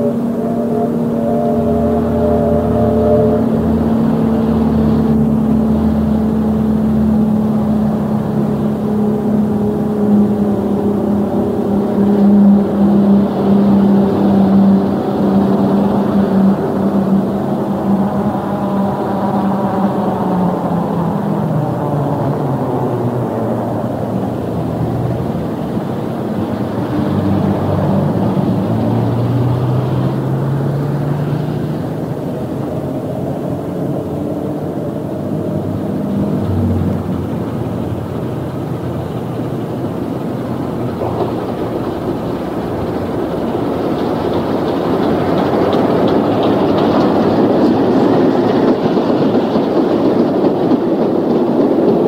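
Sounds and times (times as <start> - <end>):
steam train rumbling past: 0.0 - 52.0
wheels clicking over rail joints: 0.0 - 52.0.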